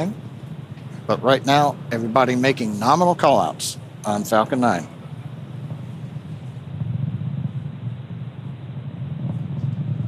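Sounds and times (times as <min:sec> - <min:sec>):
rocket engines rumbling: 0:00.0 - 0:10.0.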